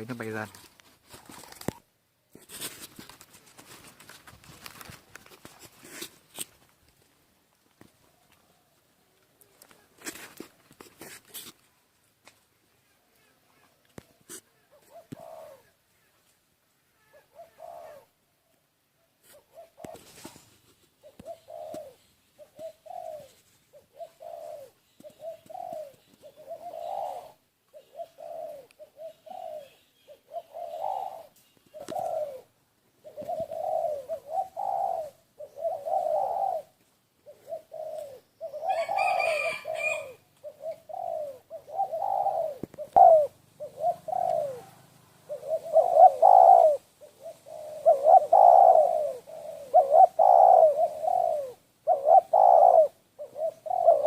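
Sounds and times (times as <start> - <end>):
doves cooing: 0.0 - 2.0, 12.7 - 54.0.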